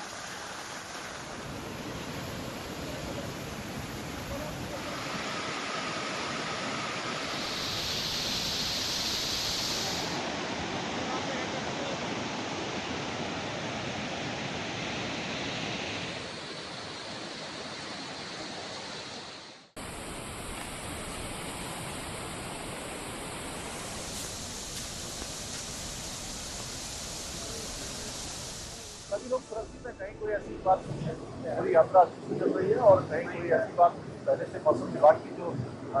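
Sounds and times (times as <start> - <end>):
river rushing: 0.0 - 32.1.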